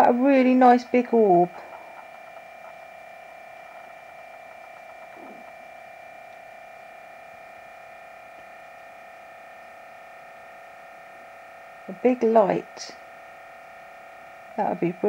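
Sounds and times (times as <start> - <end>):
steady electronic whine: 0.0 - 15.0.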